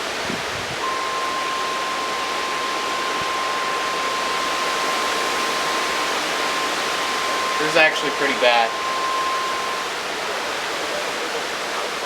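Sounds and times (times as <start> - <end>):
rain: 0.0 - 12.0
weather alert tone: 0.8 - 11.0.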